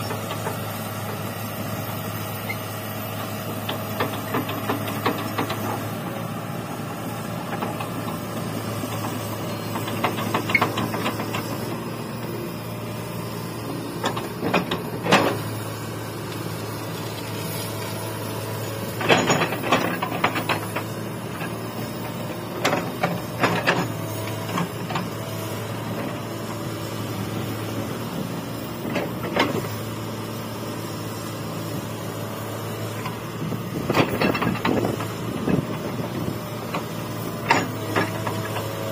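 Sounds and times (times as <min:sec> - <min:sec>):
excavator clanks and knocks: 0:00.0 - 0:01.5, 0:02.4 - 0:06.3, 0:07.0 - 0:12.3, 0:13.6 - 0:15.6, 0:18.6 - 0:30.2, 0:31.3 - 0:38.9
excavator diesel engine running: 0:00.0 - 0:38.9.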